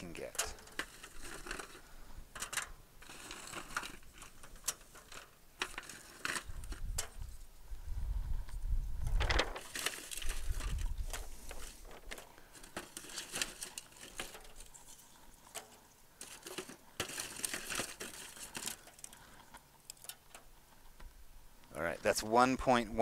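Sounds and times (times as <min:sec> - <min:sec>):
foil pan crinkling: 0:00.0 - 0:07.2, 0:09.2 - 0:20.4.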